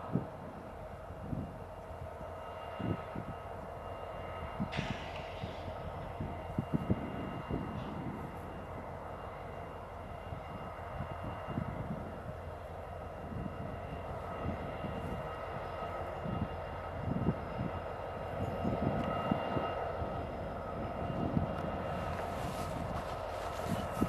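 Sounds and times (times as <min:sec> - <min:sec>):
diesel locomotive engine droning: 0:00.0 - 0:24.0.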